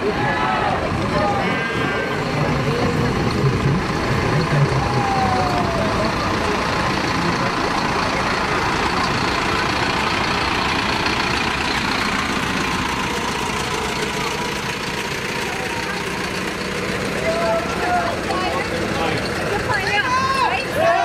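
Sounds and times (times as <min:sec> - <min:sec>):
diesel truck engine passing: 0:00.0 - 0:21.0
street noise: 0:00.0 - 0:21.0.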